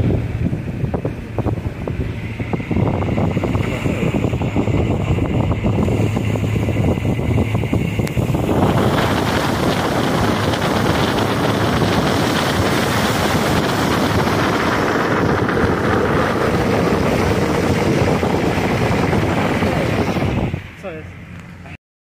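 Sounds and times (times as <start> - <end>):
wind rushing over microphone: 0.0 - 21.7
car road noise: 0.0 - 21.8.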